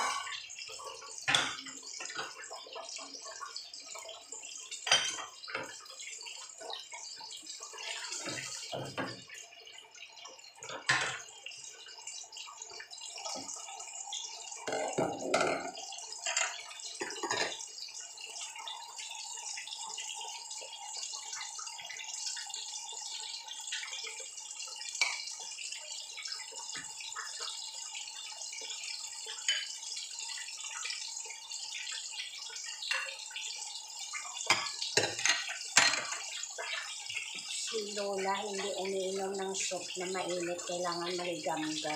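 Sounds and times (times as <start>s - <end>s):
food sizzling in hot oil: 0.0s - 41.9s.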